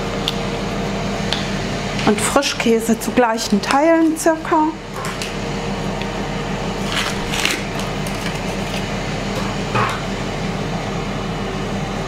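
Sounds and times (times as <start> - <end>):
multicooker fan humming: 0.0 - 12.0.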